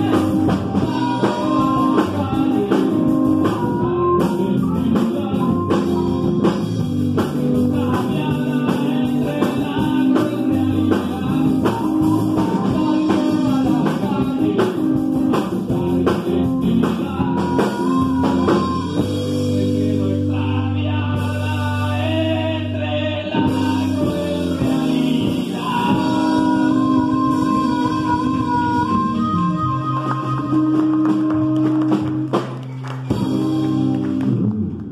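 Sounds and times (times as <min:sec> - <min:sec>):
drum kit: 0:00.0 - 0:22.7, 0:23.4 - 0:34.9
person singing: 0:00.0 - 0:32.4
electric bass: 0:00.0 - 0:34.9
electric guitar: 0:00.0 - 0:34.9.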